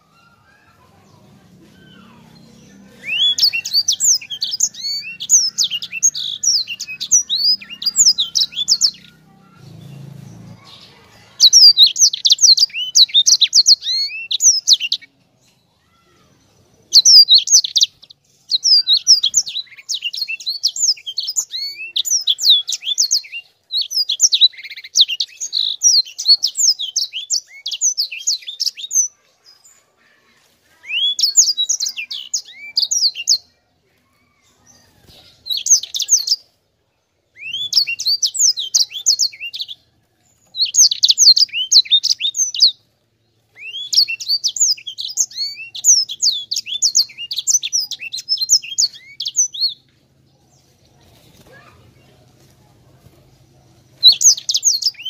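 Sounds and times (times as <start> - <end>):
finch singing chirps and trills: 0.0 - 29.8, 30.7 - 33.6, 34.5 - 36.6, 37.3 - 52.5, 53.3 - 55.0.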